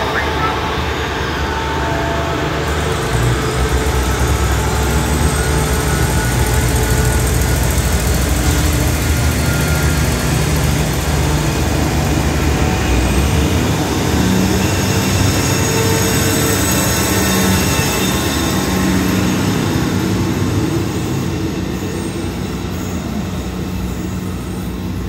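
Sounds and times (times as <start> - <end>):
diesel railcars pulling away: 0.0 - 25.0.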